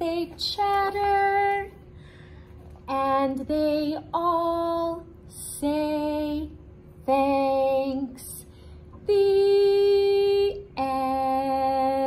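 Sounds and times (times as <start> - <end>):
woman singing unaccompanied: 0.0 - 1.8, 2.8 - 12.0.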